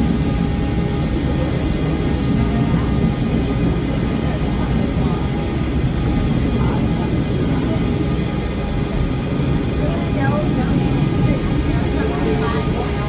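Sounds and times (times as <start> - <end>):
indistinct voices talking: 0.9 - 13.0.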